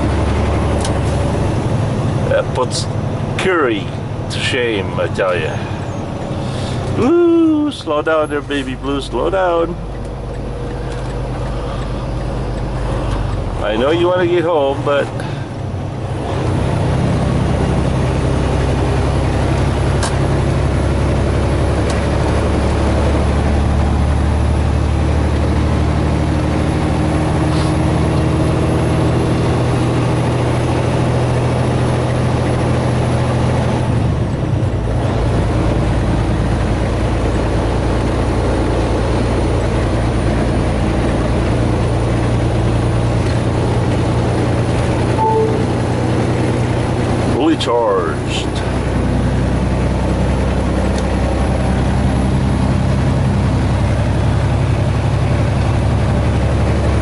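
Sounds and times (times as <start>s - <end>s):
road noise: 0.0s - 57.0s
truck engine running: 0.0s - 57.0s.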